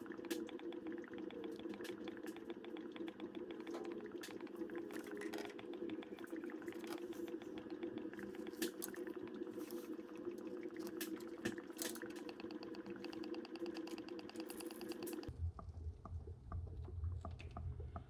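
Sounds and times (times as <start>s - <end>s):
sharp drips: 0.0s - 15.3s.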